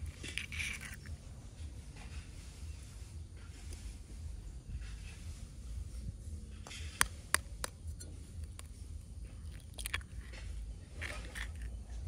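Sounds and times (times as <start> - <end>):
crunchy rustle: 0.0 - 6.0, 8.2 - 12.0
low steady rumble: 0.0 - 12.0.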